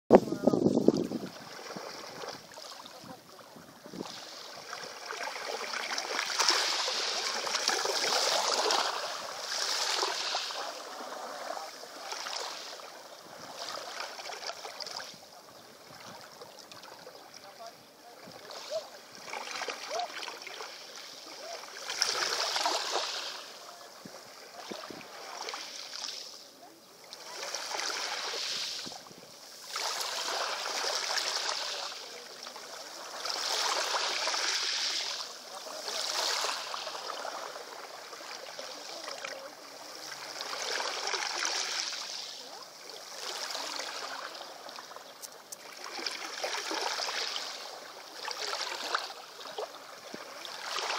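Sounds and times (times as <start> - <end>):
waves washing over pebbles: 0.1 - 50.9.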